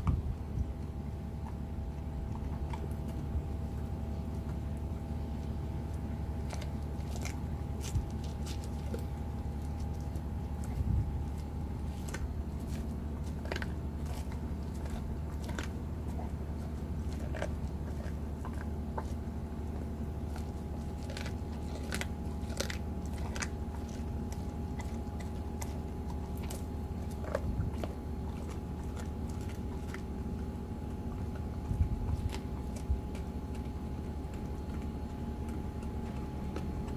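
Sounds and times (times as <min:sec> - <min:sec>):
dog chewing bone with crunches: 0:00.0 - 0:36.9
steady low hum: 0:00.0 - 0:36.9.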